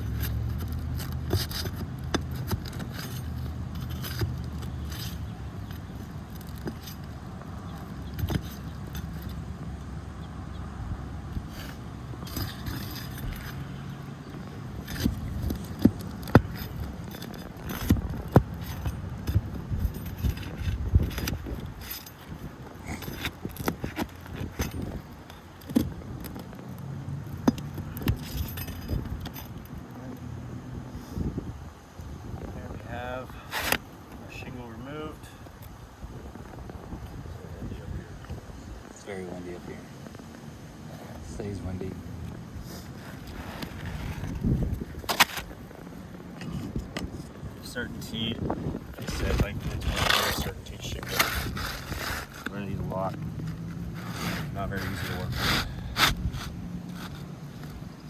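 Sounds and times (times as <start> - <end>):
roof shingle clicks and scrapes: 0.0 - 10.0, 11.2 - 30.2, 31.9 - 58.0
wind rumbling on microphone: 10.6 - 26.6, 27.3 - 58.0.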